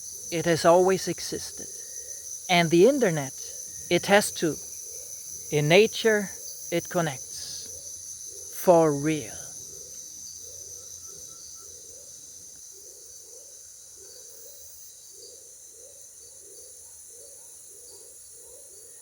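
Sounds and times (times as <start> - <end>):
crickets and insects droning: 0.0 - 19.0.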